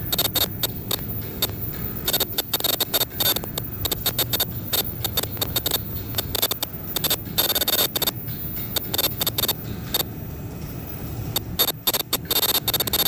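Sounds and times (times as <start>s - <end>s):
machine clicks and clacks: 0.0s - 10.1s, 11.3s - 13.0s
low machine hum: 0.0s - 13.0s.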